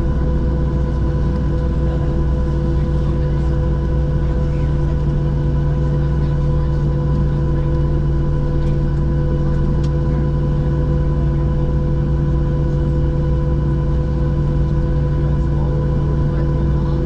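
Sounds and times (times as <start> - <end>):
aircraft cabin machinery drone: 0.0 - 17.0.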